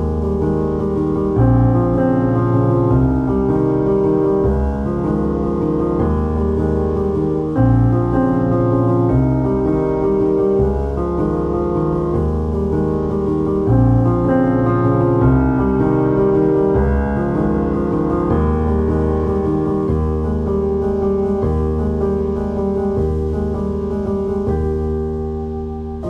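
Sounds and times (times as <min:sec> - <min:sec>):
piano background music: 0:00.0 - 0:26.0.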